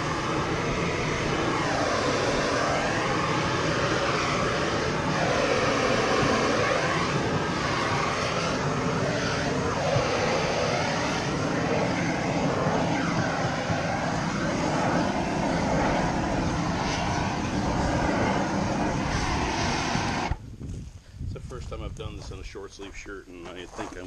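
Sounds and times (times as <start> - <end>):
heat gun flame roaring: 0.0 - 20.5.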